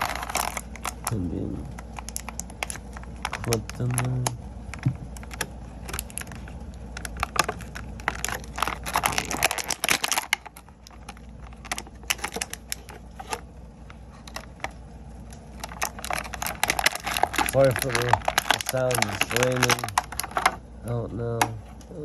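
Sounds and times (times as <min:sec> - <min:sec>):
plastic blister tray crackling: 0:00.0 - 0:22.0.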